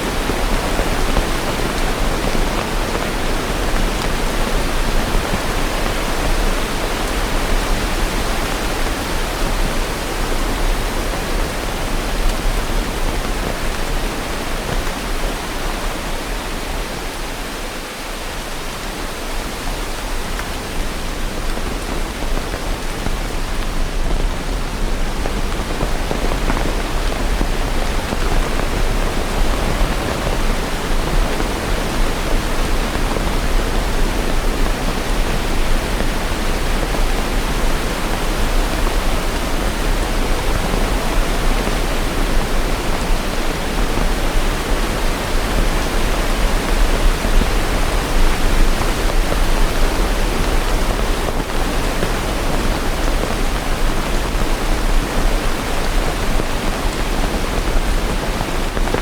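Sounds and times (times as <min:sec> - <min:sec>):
dense rain hiss: 0:00.0 - 0:59.0.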